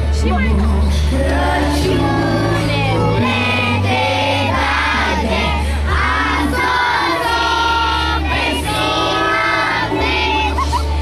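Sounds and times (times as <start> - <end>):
held bass notes from keyboard: 0.0 - 11.0
several voices singing: 0.5 - 11.0.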